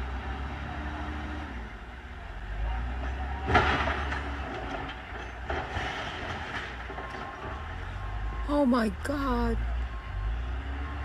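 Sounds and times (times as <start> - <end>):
backhoe engine rumbling: 0.0 - 11.0.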